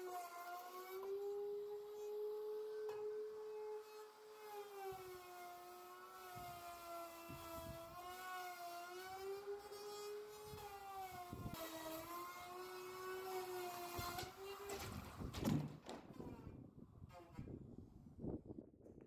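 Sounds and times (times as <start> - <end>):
power tool motor whining: 0.0 - 17.4.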